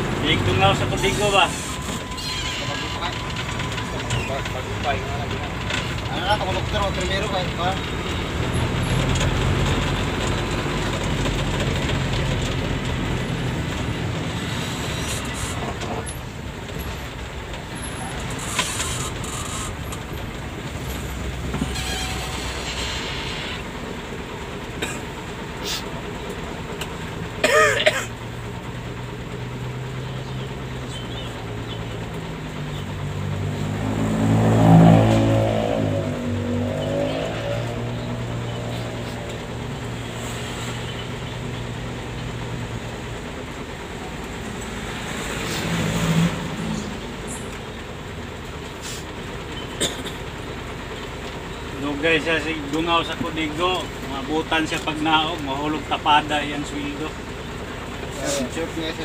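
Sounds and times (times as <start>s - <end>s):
bus engine running: 0.0s - 59.0s
road noise: 0.0s - 59.0s.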